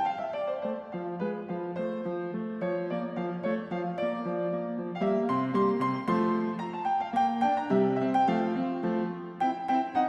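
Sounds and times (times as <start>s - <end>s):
light piano tune: 0.0s - 10.0s.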